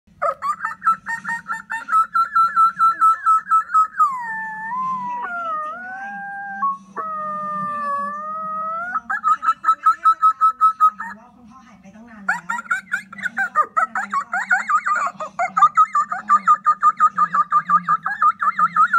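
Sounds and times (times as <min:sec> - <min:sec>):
dog whining: 0:00.2 - 0:11.2, 0:12.3 - 0:18.9.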